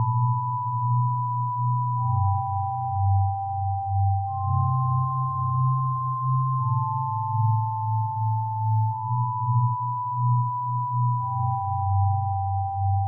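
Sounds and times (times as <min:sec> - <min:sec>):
high sine tones: 0:00.0 - 0:13.0.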